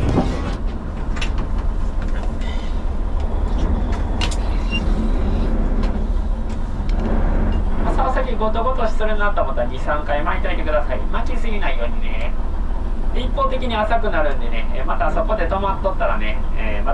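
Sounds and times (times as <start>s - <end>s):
boat engine rumbling: 0.0s - 16.9s
wind: 0.0s - 16.9s.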